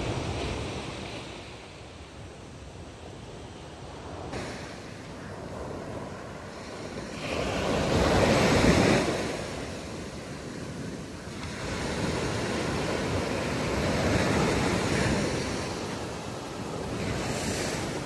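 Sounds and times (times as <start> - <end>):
waves breaking on a beach: 0.0 - 18.0.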